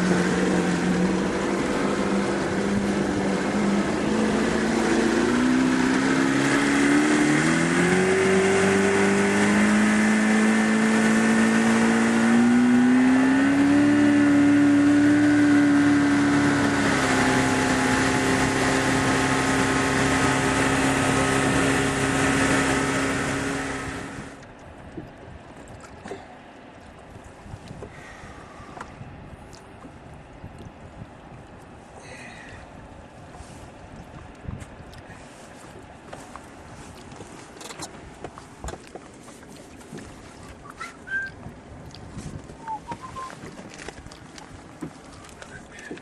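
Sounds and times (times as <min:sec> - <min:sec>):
motorboat engine running: 0:00.0 - 0:46.0.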